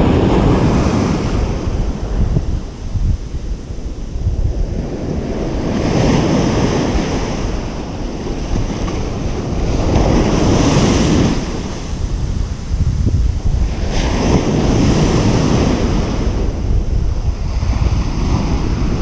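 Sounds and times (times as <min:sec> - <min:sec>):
surf breaking on beach: 0:00.0 - 0:19.0
wind rumbling on microphone: 0:00.0 - 0:19.0.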